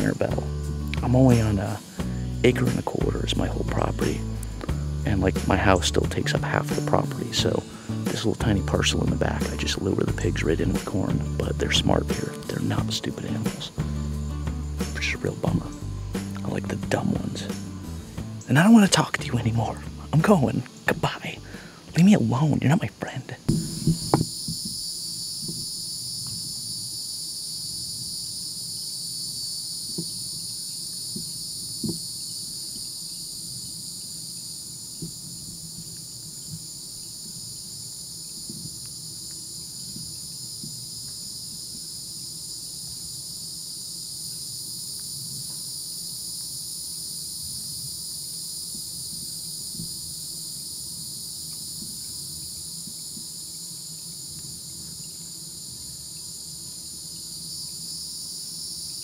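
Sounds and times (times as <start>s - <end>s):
crickets and night insects chirping: 0.0s - 59.0s.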